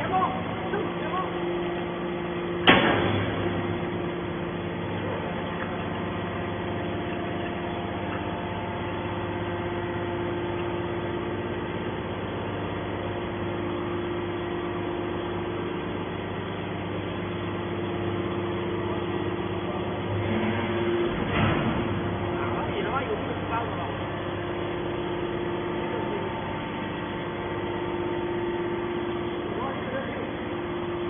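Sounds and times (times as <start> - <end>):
hydraulic power unit humming: 0.0 - 31.0.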